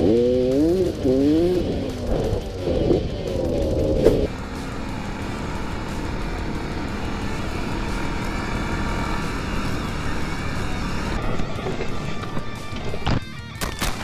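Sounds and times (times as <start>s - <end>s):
motorcycle engine: 0.0s - 14.0s
wind noise: 0.0s - 14.0s.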